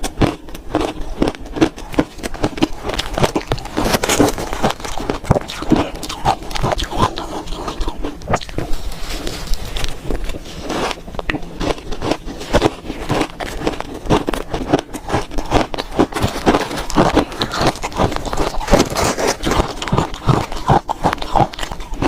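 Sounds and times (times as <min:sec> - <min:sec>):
chewing crunchy ice: 0:00.0 - 0:22.0.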